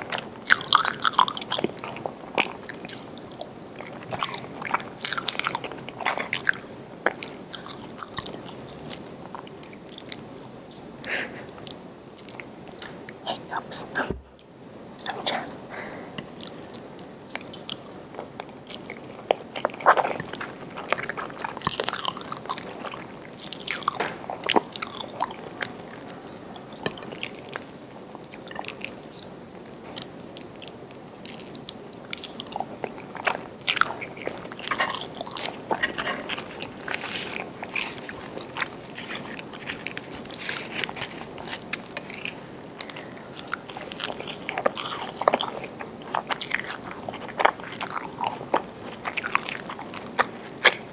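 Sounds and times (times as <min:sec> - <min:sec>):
chewing and crunching food: 0:00.0 - 0:50.9.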